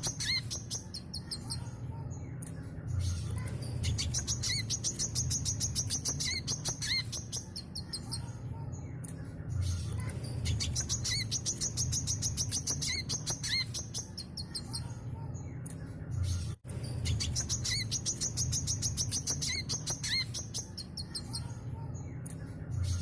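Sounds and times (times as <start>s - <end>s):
bird singing high chirps and trills: 0.0s - 23.0s.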